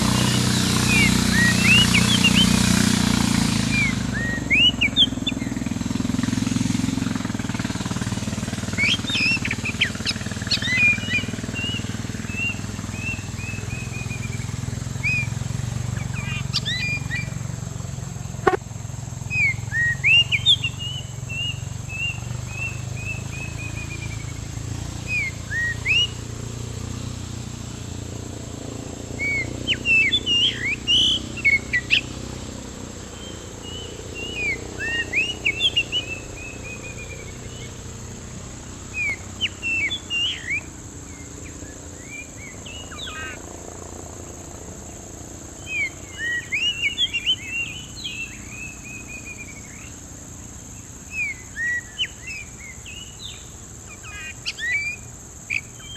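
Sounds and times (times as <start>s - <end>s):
bird song whistled notes: 0.0s - 27.3s, 28.6s - 55.9s.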